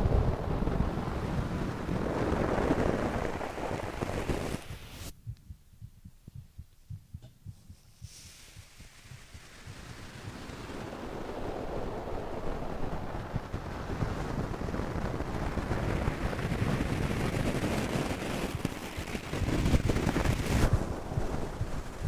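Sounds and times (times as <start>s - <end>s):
wind buffeting a microphone: 0.0s - 22.0s.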